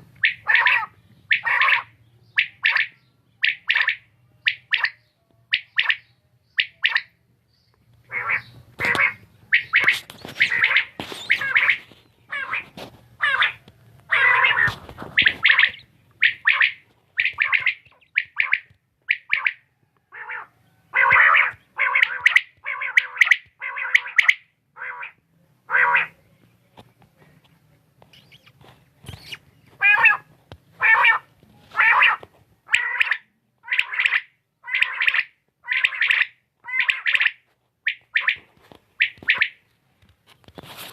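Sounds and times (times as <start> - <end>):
quail calling: 0.0 - 7.2, 8.0 - 26.2, 28.1 - 39.6.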